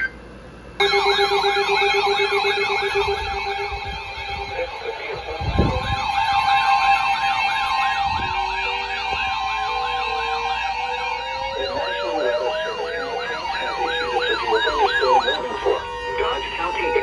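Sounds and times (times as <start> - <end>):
steady tone: 0.7 - 17.0
fast yelping siren: 0.8 - 17.0
slowly rising siren: 0.8 - 17.0.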